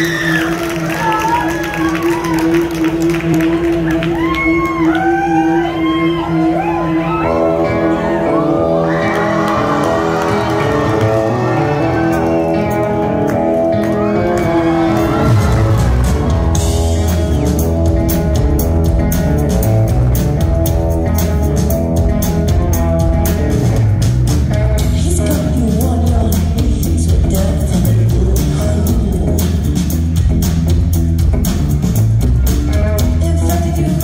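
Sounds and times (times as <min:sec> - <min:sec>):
electric guitar chords: 0:00.0 - 0:34.0
live rock band playing: 0:00.0 - 0:34.0.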